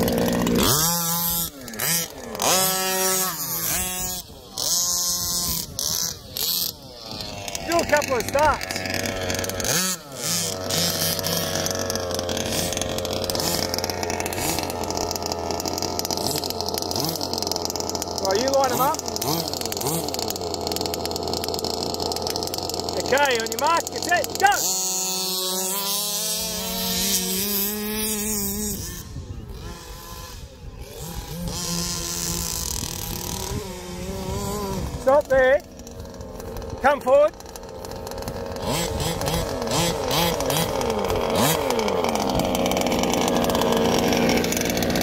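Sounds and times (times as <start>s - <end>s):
small two-stroke engines idling: 0.0s - 45.0s.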